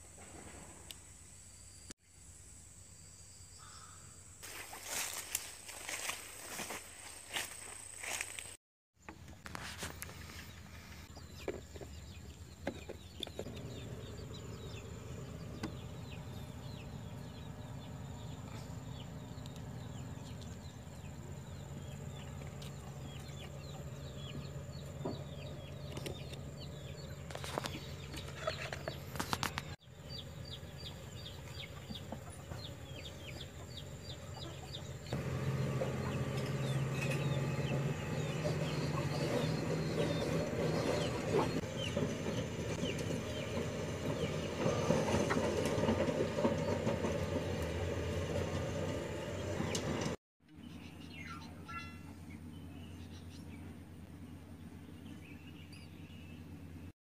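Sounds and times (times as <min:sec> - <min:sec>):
birds chirping: 0:09.8 - 0:56.9.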